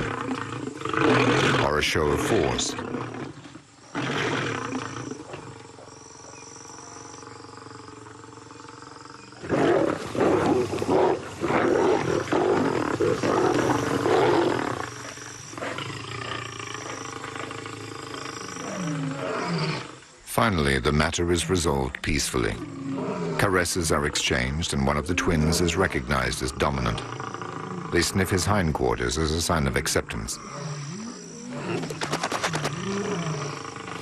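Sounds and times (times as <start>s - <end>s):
lions snarling and growling: 0.0s - 34.0s.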